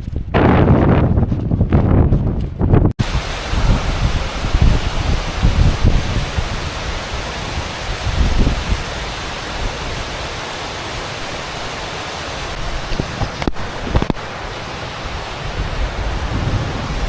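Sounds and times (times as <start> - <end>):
wind buffeting microphone: 0.0 - 17.0
waterfall rushing: 3.0 - 17.0.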